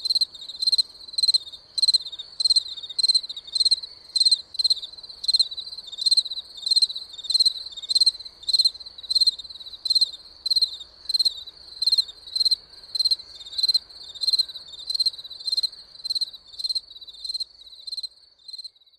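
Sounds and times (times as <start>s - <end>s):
cricket chirping: 0.0s - 18.9s
faint background hiss: 0.0s - 18.9s.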